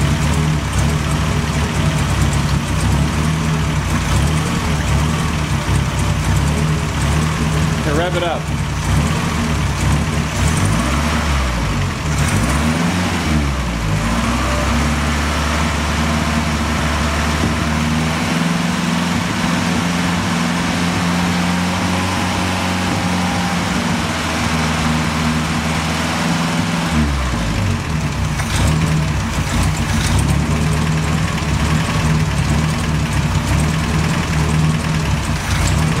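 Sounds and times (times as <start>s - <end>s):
car engine revving and idling: 0.0s - 36.0s.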